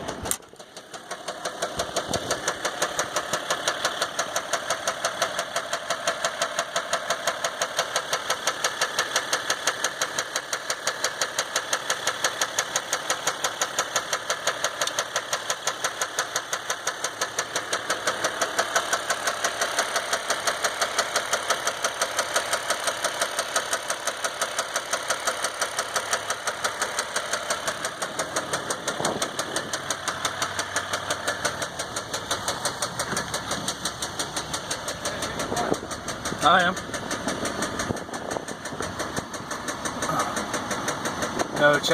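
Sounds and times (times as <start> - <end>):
diesel engine knocking: 0.0 - 41.9.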